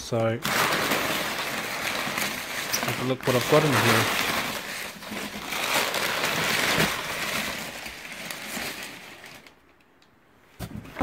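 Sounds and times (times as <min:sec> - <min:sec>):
packing paper crumpling: 0:00.4 - 0:09.6.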